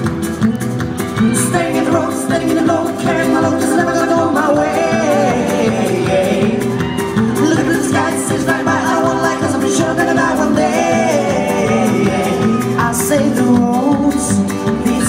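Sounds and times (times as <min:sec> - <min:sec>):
backing music: 0:00.0 - 0:15.0
man singing into a microphone: 0:01.2 - 0:15.0.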